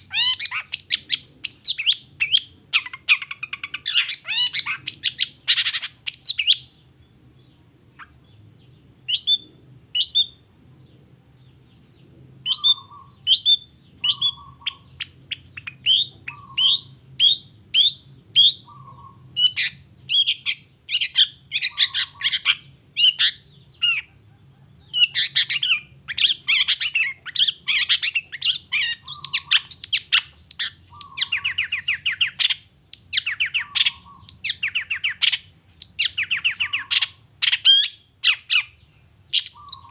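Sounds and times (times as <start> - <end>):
bird singing high chattering notes: 0.0 - 24.2, 24.8 - 39.9.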